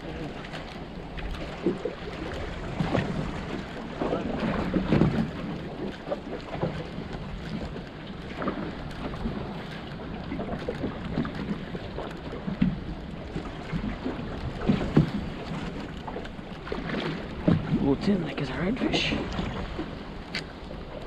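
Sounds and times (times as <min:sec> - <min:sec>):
water lapping against boat: 0:00.0 - 0:21.0
water splashes: 0:00.0 - 0:21.0.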